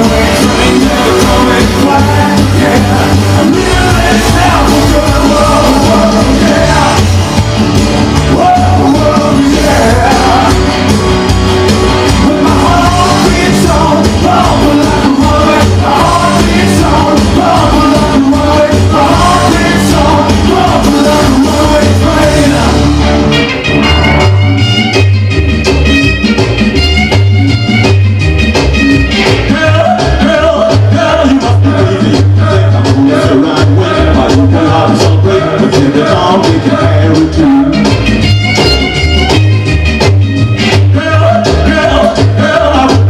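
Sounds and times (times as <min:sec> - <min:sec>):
rock and roll song with singing: 0:00.0 - 0:43.0.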